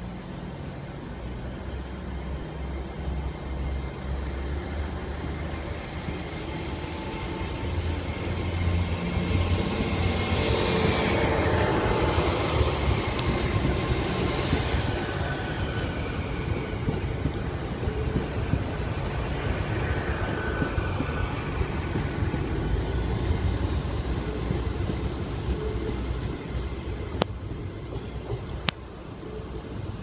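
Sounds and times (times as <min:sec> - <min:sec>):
train high whine: 0:00.0 - 0:30.0
train rumble: 0:00.0 - 0:30.0.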